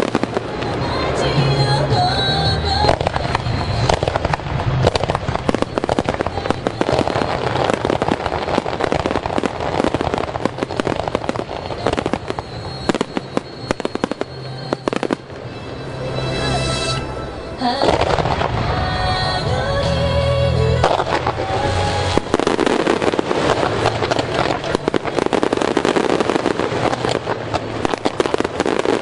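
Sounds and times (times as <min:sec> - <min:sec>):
fireworks bangs and crackling: 0:00.0 - 0:15.6, 0:17.6 - 0:29.0
music playing: 0:00.0 - 0:29.0
fireworks hiss: 0:02.8 - 0:15.5, 0:17.6 - 0:29.0.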